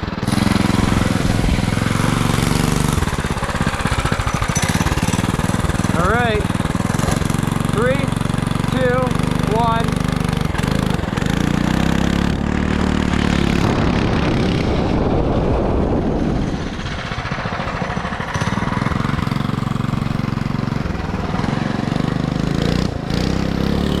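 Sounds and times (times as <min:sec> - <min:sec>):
minibike engine running: 0:00.0 - 0:24.0.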